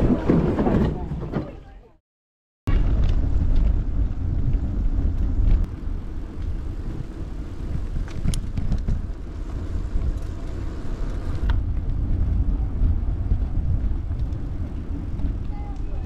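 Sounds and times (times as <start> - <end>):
bicycle tyres rolling on tarmac: 2.7 - 16.0
wind rumbling on microphone: 2.7 - 16.0.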